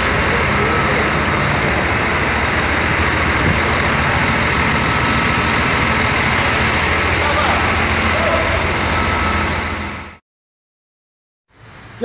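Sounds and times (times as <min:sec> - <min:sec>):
heavy engine idling: 0:00.0 - 0:10.2.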